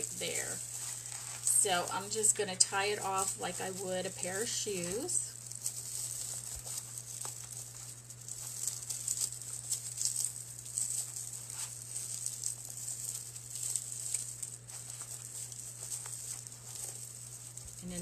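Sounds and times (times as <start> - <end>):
raffia rustling and crinkling: 0.0 - 18.0
steady low hum: 0.0 - 18.0.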